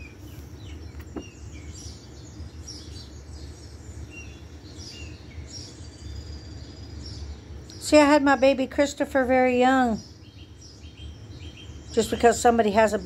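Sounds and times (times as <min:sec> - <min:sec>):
low steady hum: 0:00.0 - 0:13.0
small birds chirping: 0:00.0 - 0:13.0.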